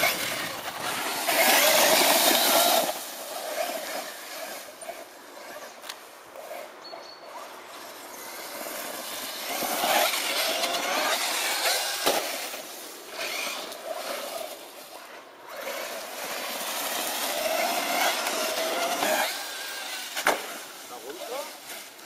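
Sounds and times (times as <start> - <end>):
toy truck motors revving: 0.0 - 21.9.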